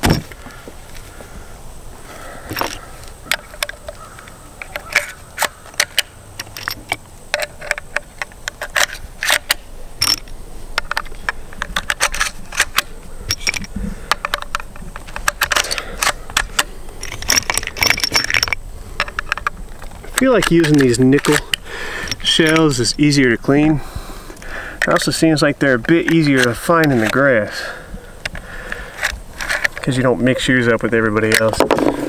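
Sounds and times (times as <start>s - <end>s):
metallic cartridge clicks and rattles: 2.5s - 23.6s, 24.3s - 27.6s, 28.2s - 32.0s.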